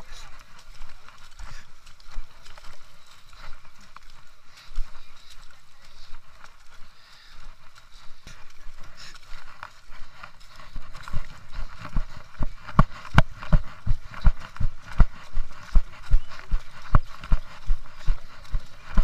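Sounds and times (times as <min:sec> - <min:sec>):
running footsteps on dirt: 0:00.0 - 0:19.0.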